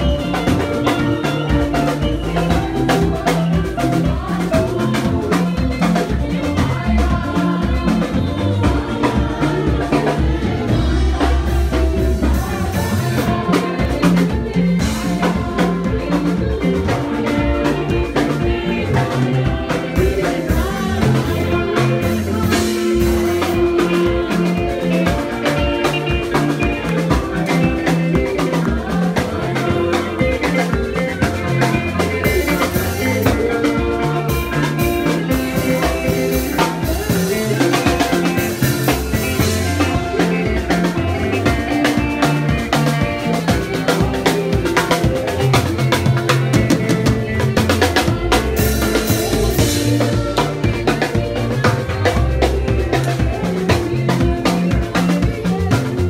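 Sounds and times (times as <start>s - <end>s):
drum kit beats and rimshots: 0.0s - 56.0s
electric bass line: 0.0s - 56.0s.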